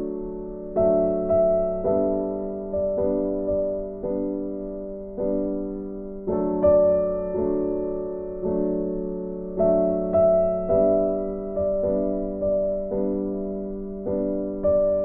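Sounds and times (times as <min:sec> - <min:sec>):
soft slow piano chords: 0:00.0 - 0:15.0.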